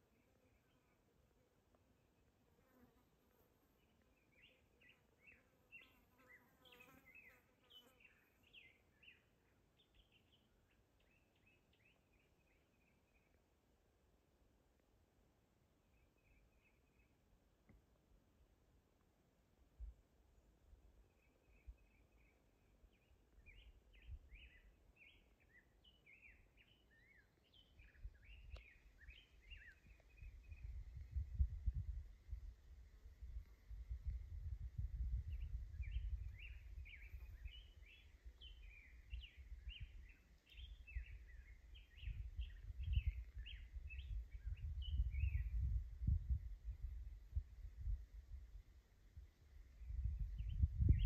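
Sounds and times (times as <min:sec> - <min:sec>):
songbird singing: 0:00.0 - 0:02.8, 0:03.8 - 0:13.6, 0:15.8 - 0:17.9, 0:19.8 - 0:48.0, 0:48.6 - 0:51.0
low hiss of outdoor air: 0:00.0 - 0:51.0.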